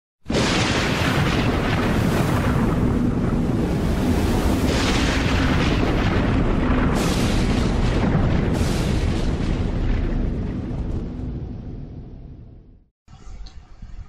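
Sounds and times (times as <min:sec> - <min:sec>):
deep cinematic rumble: 0:01.5 - 0:14.0.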